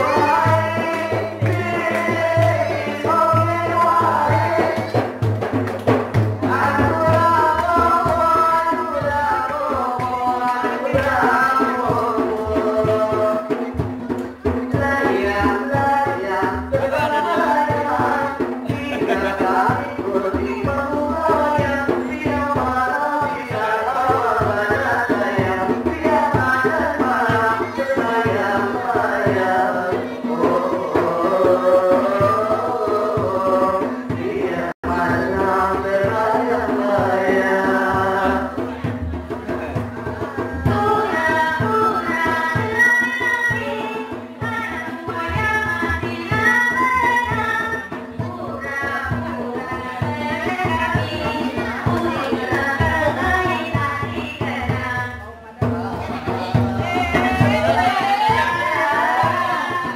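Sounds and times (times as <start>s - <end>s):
person singing through loudspeaker: 0.0s - 5.3s, 6.4s - 59.9s
frame drums: 0.0s - 59.9s.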